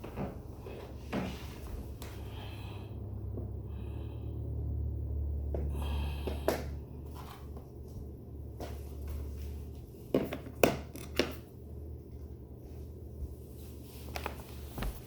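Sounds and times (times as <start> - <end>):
low household hum: 0.0 - 15.0.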